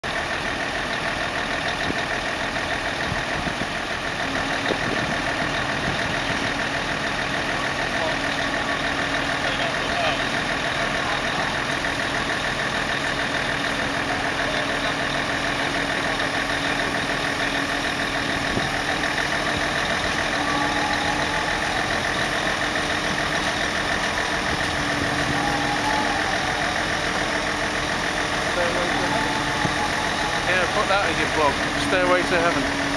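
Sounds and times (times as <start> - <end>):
crane diesel engine running: 0.0 - 32.9.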